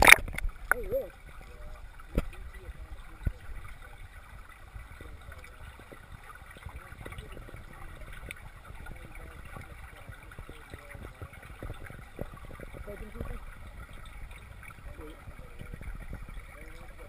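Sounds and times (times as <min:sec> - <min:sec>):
underwater rumble: 0:00.0 - 0:17.0
faint muffled voices: 0:00.7 - 0:17.0.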